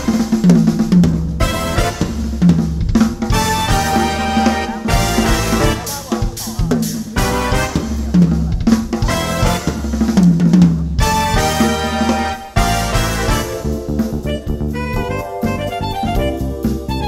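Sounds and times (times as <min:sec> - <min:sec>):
backing music track: 0:00.0 - 0:17.0
drum kit played fast: 0:00.0 - 0:17.0.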